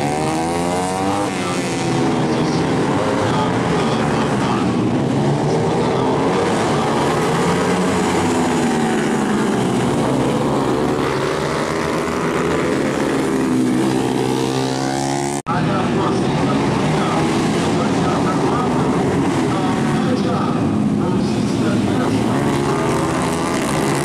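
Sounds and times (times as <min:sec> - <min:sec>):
motorcycle engines racing: 0:00.0 - 0:24.0.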